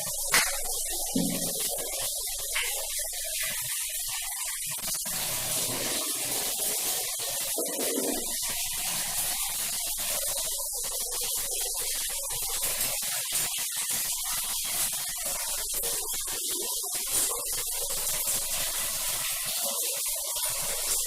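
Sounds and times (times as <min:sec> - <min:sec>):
running water hissing: 0:00.0 - 0:21.0.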